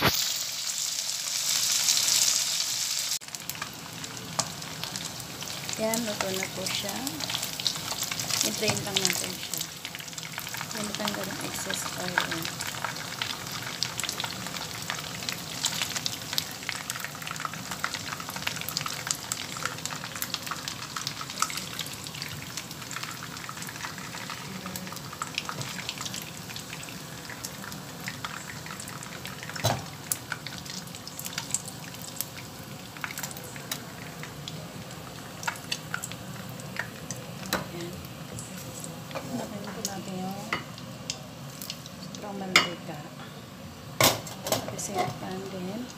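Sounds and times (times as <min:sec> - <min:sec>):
shrimp sizzling in hot oil: 0:00.0 - 0:45.9.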